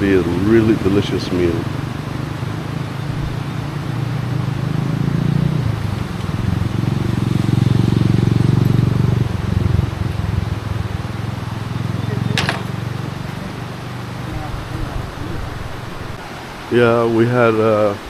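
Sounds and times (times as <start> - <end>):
motor engine humming: 0.0 - 17.5.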